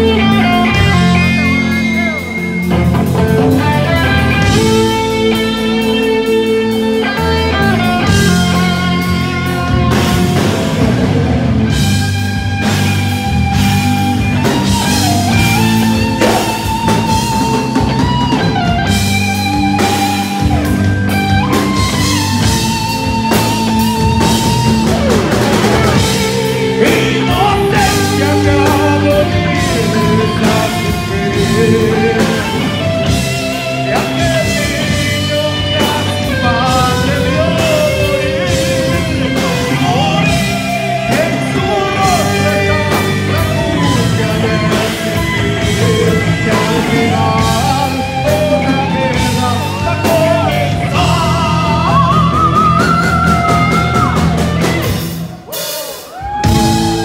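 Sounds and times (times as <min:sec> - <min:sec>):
melodic guitar lead lines: 0:00.0 - 0:57.0
metal band playing: 0:00.0 - 0:57.0.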